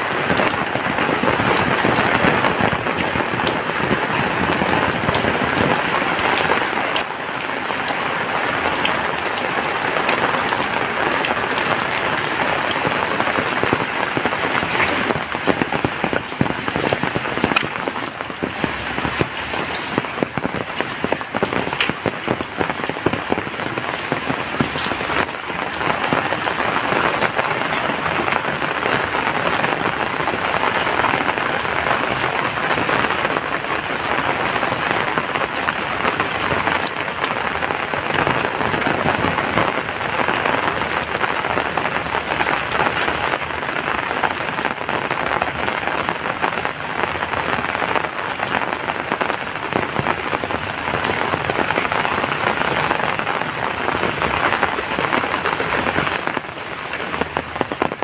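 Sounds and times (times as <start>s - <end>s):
heavy rain falling: 0.0s - 58.0s
sharp raindrop ticks: 0.0s - 58.0s.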